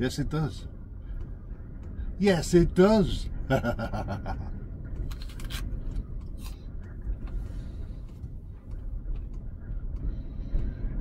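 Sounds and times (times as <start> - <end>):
high wind buffeting a van: 0.0 - 11.0.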